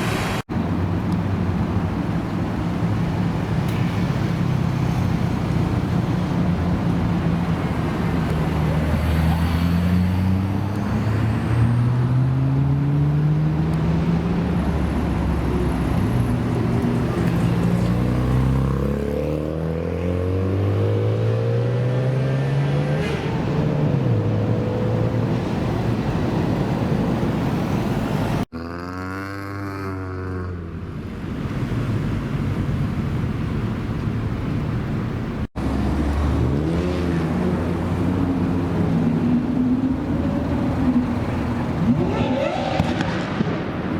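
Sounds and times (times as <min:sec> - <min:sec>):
car engines accelerating: 0:00.0 - 0:43.9.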